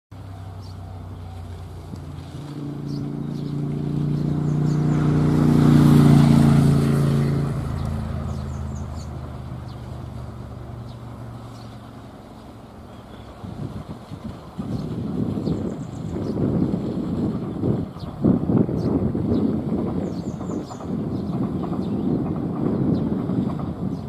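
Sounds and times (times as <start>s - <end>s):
vehicle passing by: 0.2s - 24.0s.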